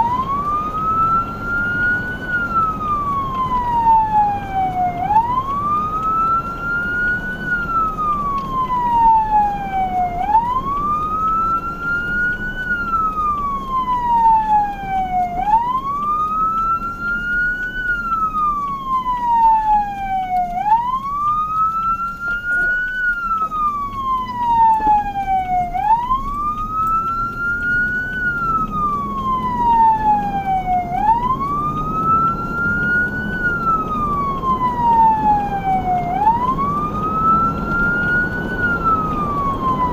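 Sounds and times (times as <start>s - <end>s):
emergency vehicle siren wailing: 0.0s - 39.9s
engine rumble and road noise: 0.0s - 39.9s.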